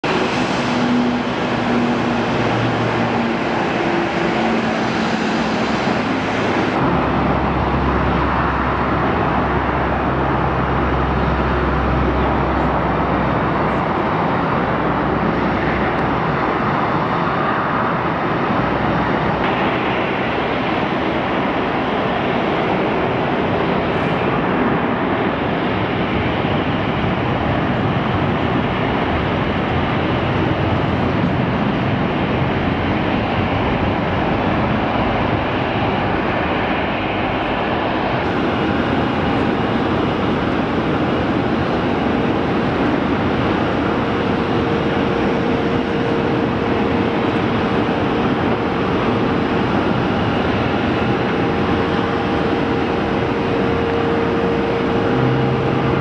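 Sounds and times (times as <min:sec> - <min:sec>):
turboprop engines running: 0:00.0 - 0:56.0.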